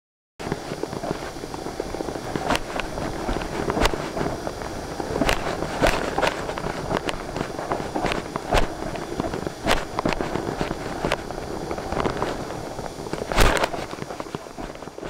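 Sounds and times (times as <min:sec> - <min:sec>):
board slapping water: 0:00.4 - 0:15.0
wind rushing over microphone: 0:00.4 - 0:15.0.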